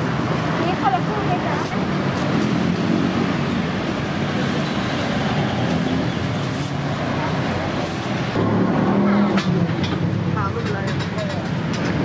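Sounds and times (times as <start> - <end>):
hubbub of distant voices: 0.0 - 12.0
traffic noise: 0.0 - 12.0.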